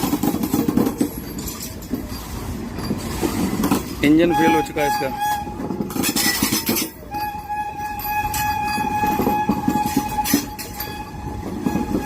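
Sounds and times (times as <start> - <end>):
train wheel and rail clatter: 0.0 - 12.0.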